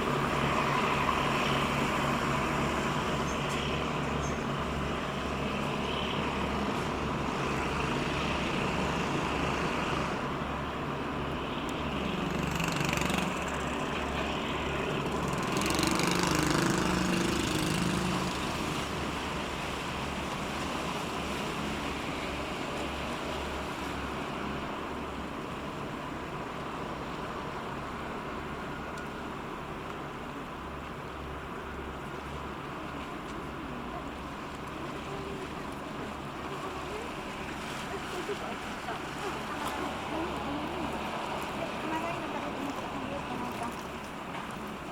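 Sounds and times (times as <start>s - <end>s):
boat diesel engine throbbing: 0.0s - 44.9s.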